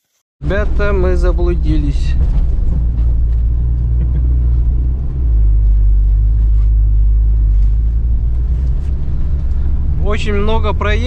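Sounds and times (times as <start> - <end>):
engine and road rumble: 0.4 - 11.0.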